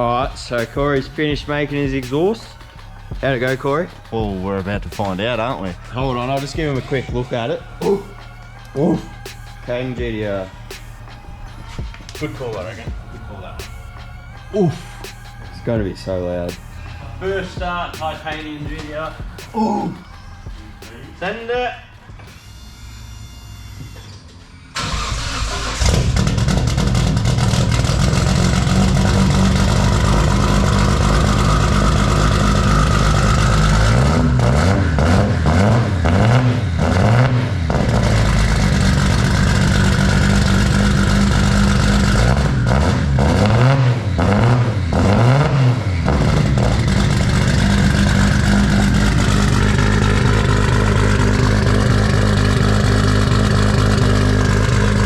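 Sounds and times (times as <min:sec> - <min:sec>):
engine cranking: 0:00.0 - 0:22.6, 0:24.8 - 0:55.0
car engine idling and revving: 0:00.0 - 0:55.0.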